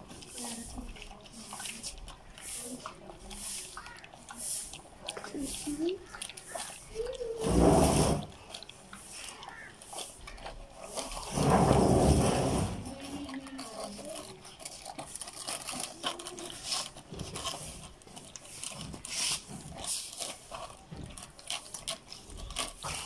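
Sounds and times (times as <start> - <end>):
puppies lapping milk: 0.0 - 23.0.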